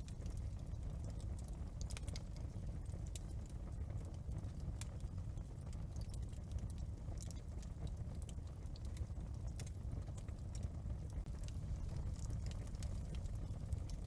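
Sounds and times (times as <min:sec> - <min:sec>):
burning wood popping and snapping: 0:00.0 - 0:14.0
wood fire crackling: 0:00.0 - 0:14.0.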